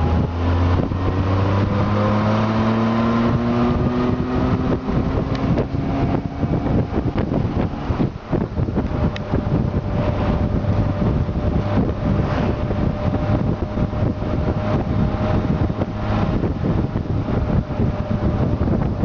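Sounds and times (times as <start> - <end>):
motorcycle engine drone: 0.0 - 19.0
wind buffeting microphone: 0.0 - 19.0.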